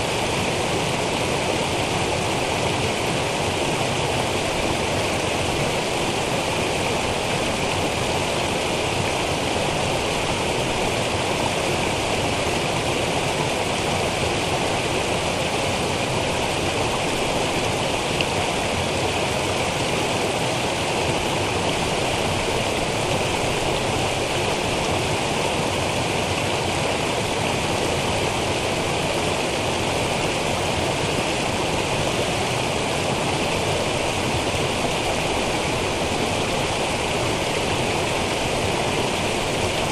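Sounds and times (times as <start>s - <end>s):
brook cascading over rocks: 0.0s - 39.9s.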